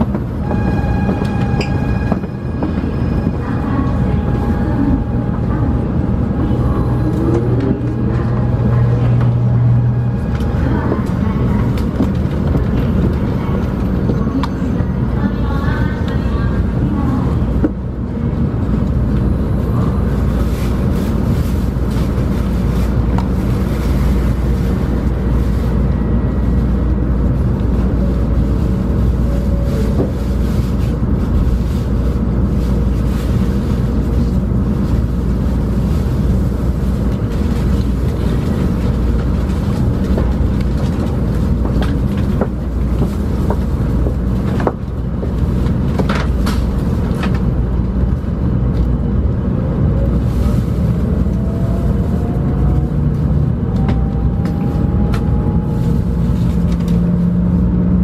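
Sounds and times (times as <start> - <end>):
train interior low rumble: 0.0 - 58.0.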